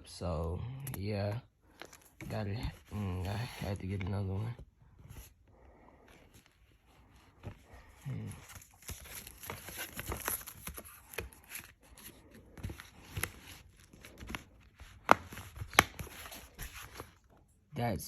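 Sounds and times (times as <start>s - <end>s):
plastic cases rustling and crinkling: 1.6s - 17.5s.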